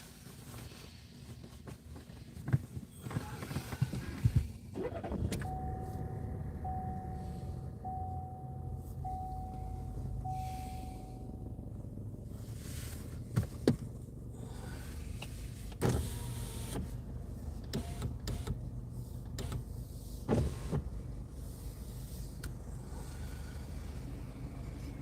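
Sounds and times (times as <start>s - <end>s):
car engine running: 3.0s - 25.0s.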